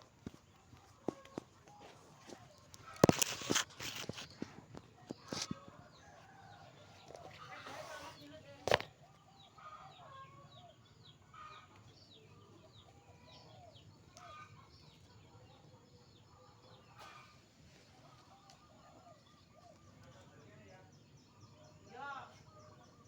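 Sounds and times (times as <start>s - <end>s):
small birds chirping: 0.0s - 23.0s
chickens clucking: 0.1s - 20.8s.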